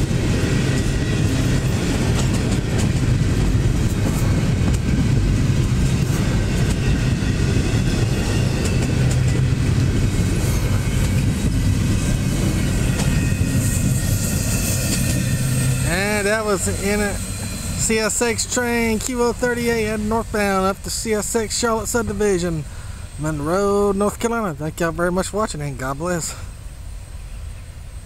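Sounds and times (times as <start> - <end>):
rail clicks: 0.0 - 26.4
freight train wheels rumbling on rail: 0.0 - 28.0.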